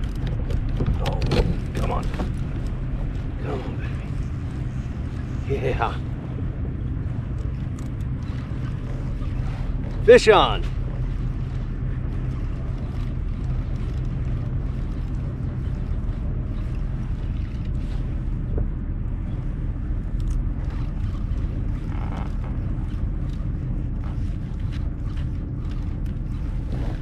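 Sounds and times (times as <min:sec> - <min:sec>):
kayak motor droning: 0:00.0 - 0:27.0.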